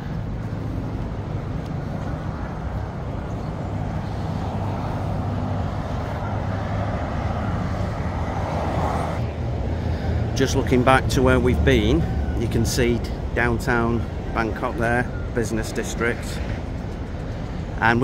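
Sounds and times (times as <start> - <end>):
motorway traffic: 0.0 - 18.0.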